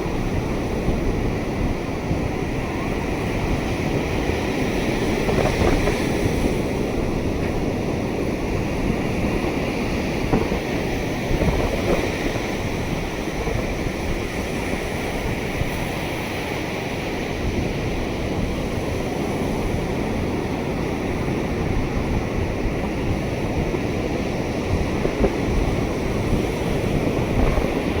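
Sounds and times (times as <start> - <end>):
surf washing onto beach: 0.0 - 28.0
wind buffeting microphone: 0.0 - 28.0.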